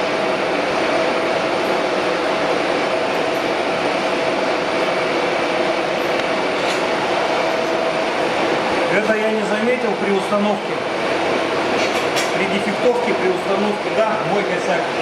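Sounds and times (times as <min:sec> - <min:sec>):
mechanical whir with hum: 0:00.0 - 0:15.0.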